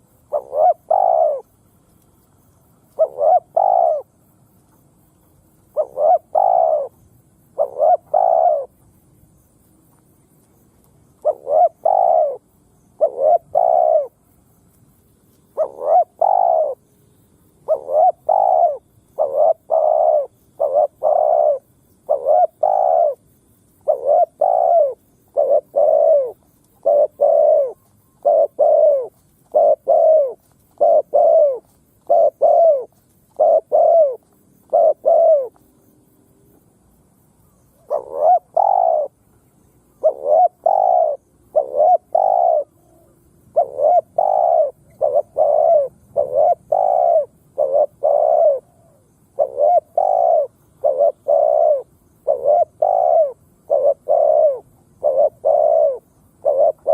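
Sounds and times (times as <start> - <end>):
dove cooing: 0.0 - 1.6, 2.9 - 4.2, 5.6 - 8.8, 11.2 - 14.2, 15.5 - 16.9, 17.6 - 35.7, 37.7 - 39.2, 39.8 - 56.9.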